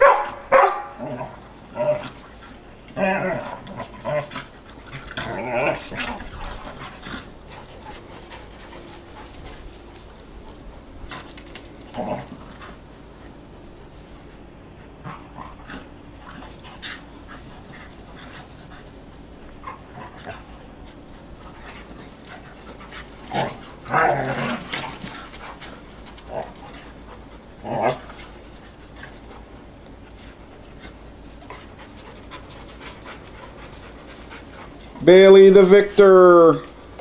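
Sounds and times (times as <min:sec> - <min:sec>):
dogs play-fighting: 0:00.0 - 0:35.1.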